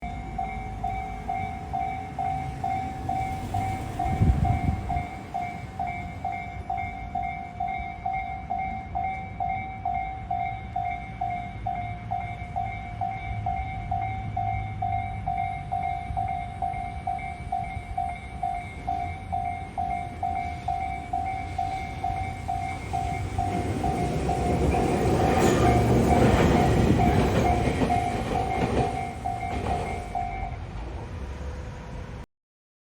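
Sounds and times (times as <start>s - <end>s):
electric train rumbling: 0.0s - 32.2s.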